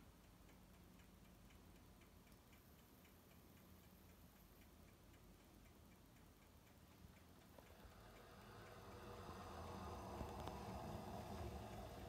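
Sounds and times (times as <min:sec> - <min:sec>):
faint regular ticking: 0:00.0 - 0:12.0
low background hum: 0:00.0 - 0:12.0.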